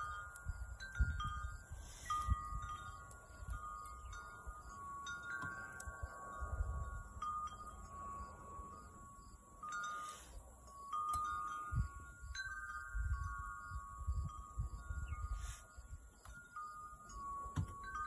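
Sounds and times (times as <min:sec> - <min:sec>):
wind chimes ringing: 0:00.0 - 0:18.0.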